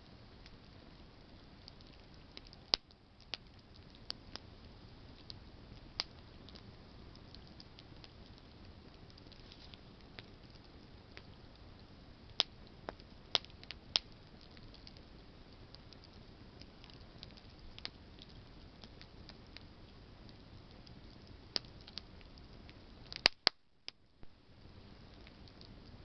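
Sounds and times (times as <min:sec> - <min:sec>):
campfire hissing: 0:00.0 - 0:23.4, 0:24.0 - 0:26.0
branches crackling and popping: 0:01.6 - 0:24.2.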